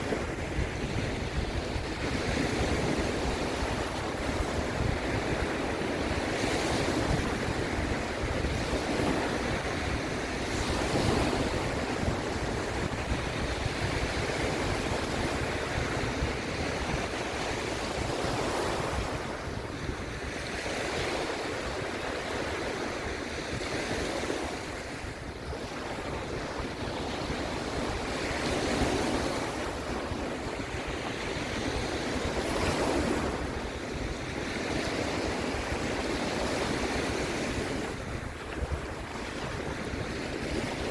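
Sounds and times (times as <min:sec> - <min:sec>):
sea waves breaking: 0:00.0 - 0:40.9
wind on the microphone: 0:00.0 - 0:40.9.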